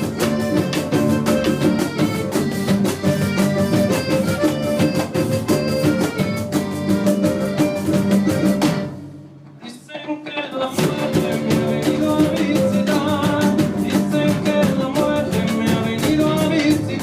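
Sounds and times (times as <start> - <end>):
live band playing fast rhythm: 0.0 - 9.5, 10.6 - 17.0.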